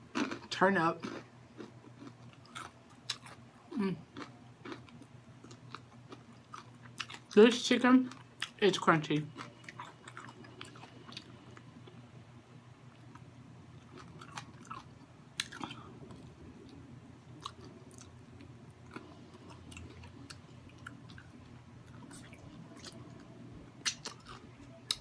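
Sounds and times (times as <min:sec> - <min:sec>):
chewing crispy fried chicken: 0:00.1 - 0:12.0, 0:12.9 - 0:25.0.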